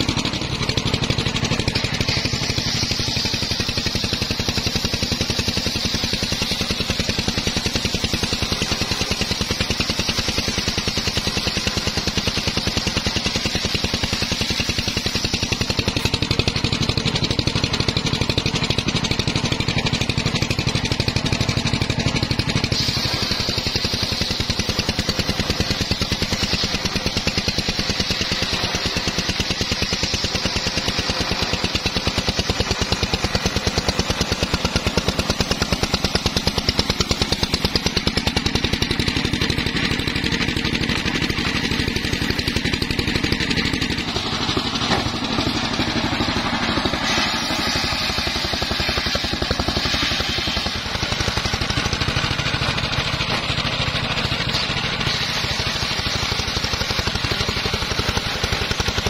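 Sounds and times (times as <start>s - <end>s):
engine throbbing: 0.0s - 59.0s
saw blade cutting hiss: 0.0s - 59.0s.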